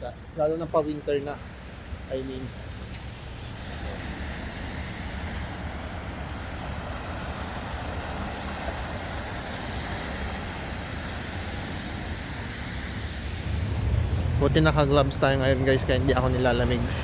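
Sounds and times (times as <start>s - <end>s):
passing traffic: 0.0s - 17.0s
wind rumble on microphone: 1.4s - 17.0s.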